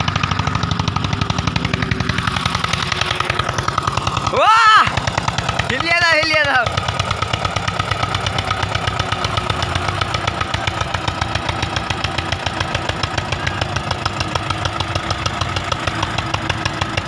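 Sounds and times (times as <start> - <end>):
tractor diesel engine chugging: 0.0 - 17.0.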